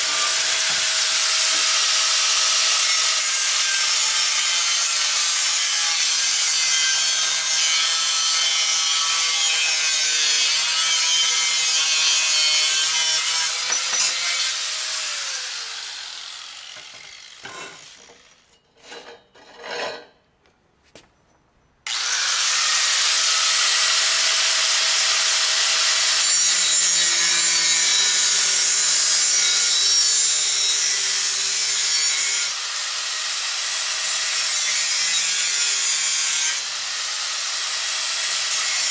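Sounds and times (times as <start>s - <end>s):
angle grinder cutting wood: 0.0s - 20.0s, 21.9s - 38.9s.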